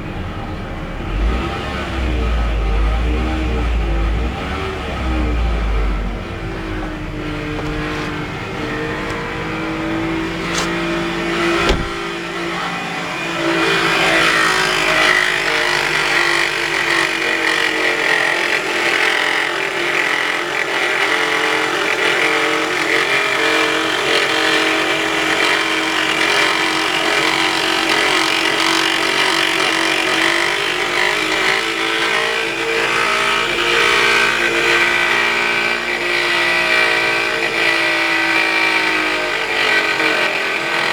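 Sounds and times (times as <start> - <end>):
car engine groaning: 0.0 - 40.9.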